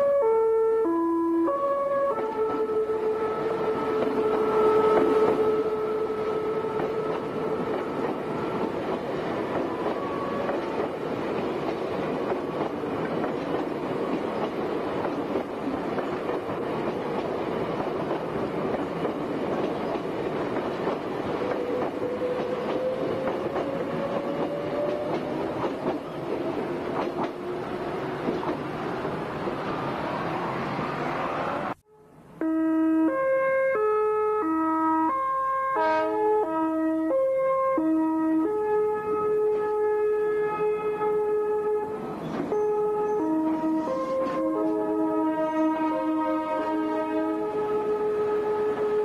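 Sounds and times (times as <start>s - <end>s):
electric train passing: 0.0s - 33.2s, 38.4s - 49.0s
steady train whine: 0.0s - 33.2s, 37.8s - 49.0s.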